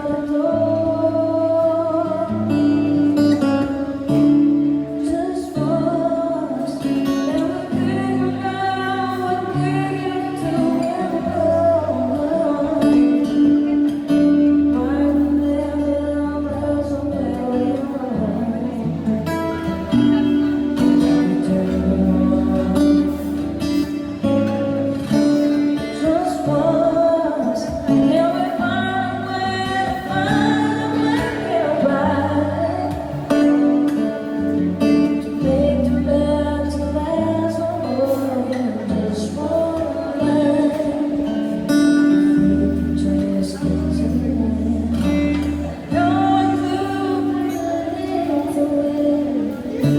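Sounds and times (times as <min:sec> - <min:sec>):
guitar: 0:00.0 - 0:49.9
person singing: 0:00.0 - 0:49.9.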